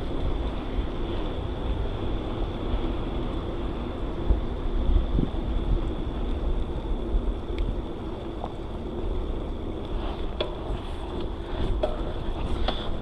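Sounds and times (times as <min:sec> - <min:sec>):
bicycle tyre rumble: 0:00.0 - 0:13.0
wind on camera microphone: 0:00.0 - 0:13.0.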